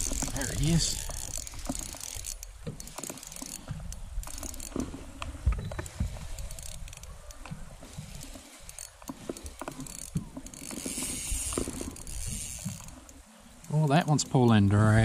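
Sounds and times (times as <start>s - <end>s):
fishing reel cranking: 0.0s - 5.0s, 5.6s - 14.6s.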